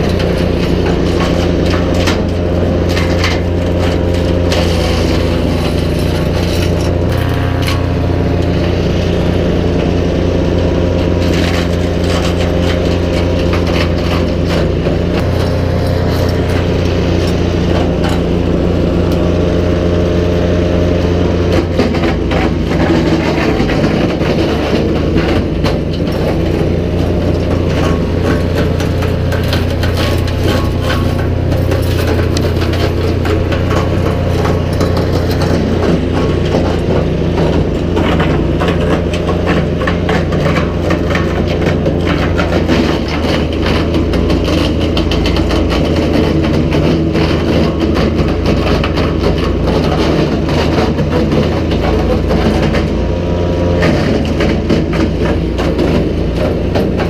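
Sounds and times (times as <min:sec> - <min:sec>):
wood chipper engine running: 0:00.0 - 0:57.0.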